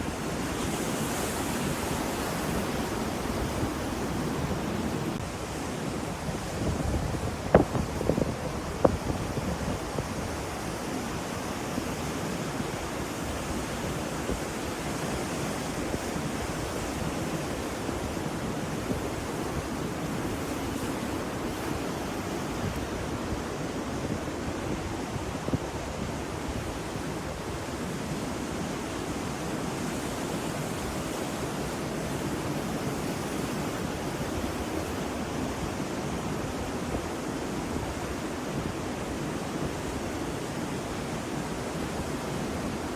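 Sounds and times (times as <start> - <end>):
ocean surf: 0.0 - 42.9.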